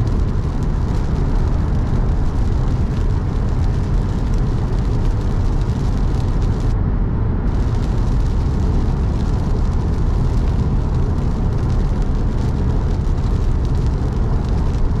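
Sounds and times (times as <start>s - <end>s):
rain: 0.0s - 6.8s, 7.5s - 15.0s
tyres hissing on wet road: 0.0s - 6.8s, 7.5s - 15.0s
car road and engine rumble: 0.0s - 15.0s.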